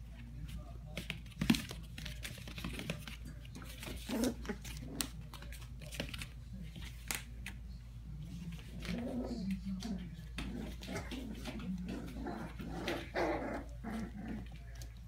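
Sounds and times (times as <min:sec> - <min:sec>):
puppy paws scratching and tapping: 0:00.0 - 0:15.0.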